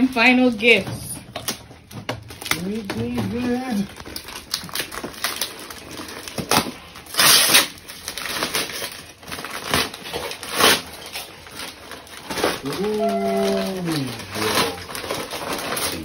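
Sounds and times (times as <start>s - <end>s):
paper crinkling and tearing: 1.4s - 16.0s.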